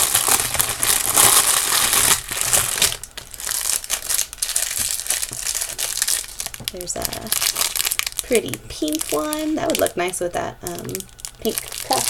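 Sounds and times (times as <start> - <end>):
crinkly packaging handled: 0.0 - 12.0.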